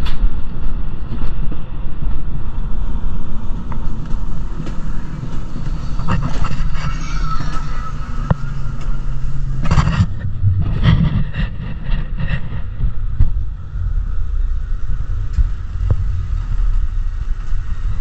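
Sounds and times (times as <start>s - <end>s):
sled wheels rumbling on track: 0.0s - 18.0s.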